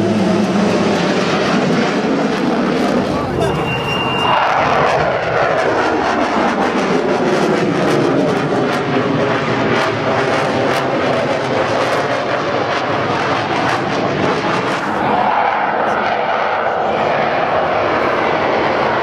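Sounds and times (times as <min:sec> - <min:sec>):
military aircraft flying overhead: 0:00.0 - 0:19.0.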